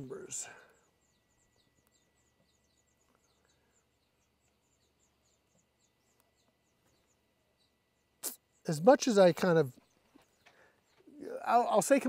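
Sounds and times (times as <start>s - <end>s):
faint high chirping: 0.0s - 12.0s.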